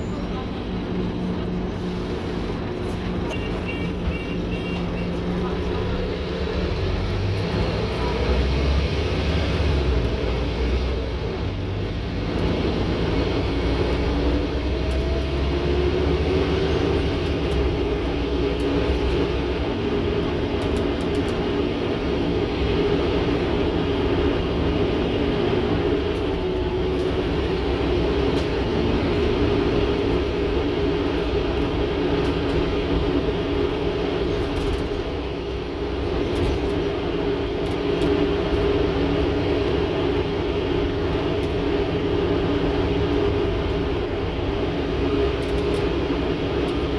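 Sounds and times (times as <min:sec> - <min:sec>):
bus engine drone: 0:00.0 - 0:46.9
road rumble: 0:00.0 - 0:46.9.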